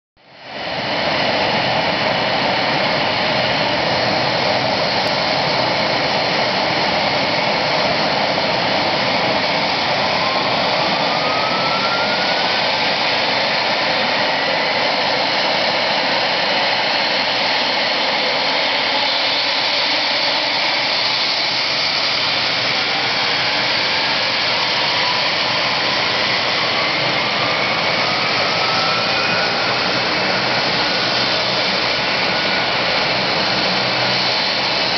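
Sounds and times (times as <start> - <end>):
helicopter turbine rush: 0.2 - 34.9.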